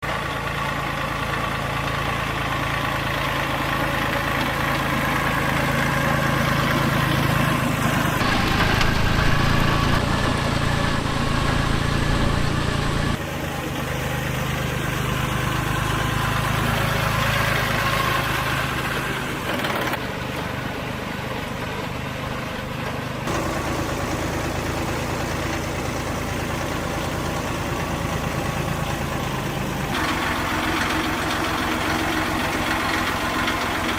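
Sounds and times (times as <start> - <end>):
vehicle engine idling: 0.1 - 33.9.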